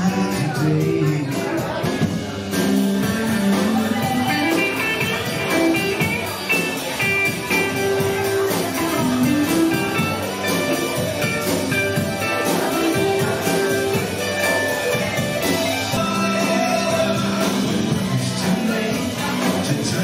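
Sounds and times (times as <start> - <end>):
blues rock band playing: 0.0 - 20.0
electric guitar lead: 0.0 - 20.0.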